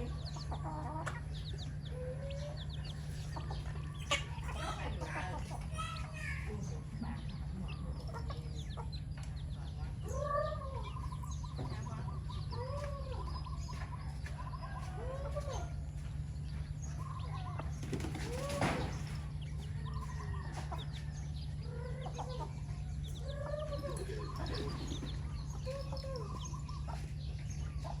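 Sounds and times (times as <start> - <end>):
chickens clucking: 0.0 - 28.0
steady low hum: 0.0 - 28.0.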